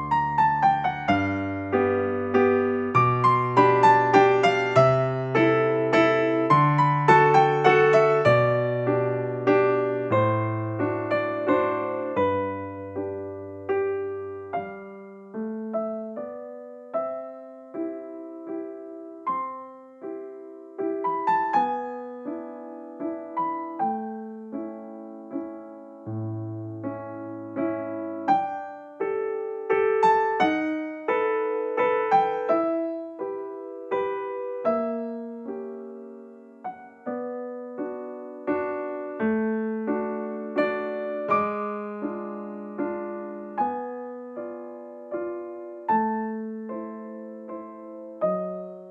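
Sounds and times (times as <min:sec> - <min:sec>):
gentle piano music: 0:00.0 - 0:48.9.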